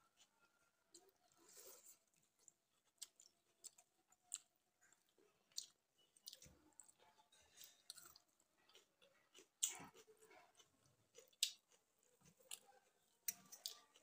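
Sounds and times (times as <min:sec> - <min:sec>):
chewing: 0:00.1 - 0:14.0.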